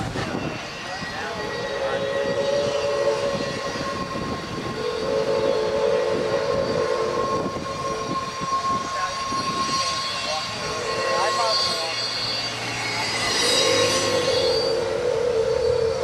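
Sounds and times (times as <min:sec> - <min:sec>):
steam locomotive running slowly: 0:00.0 - 0:16.0
sustained high tones: 0:00.3 - 0:16.0.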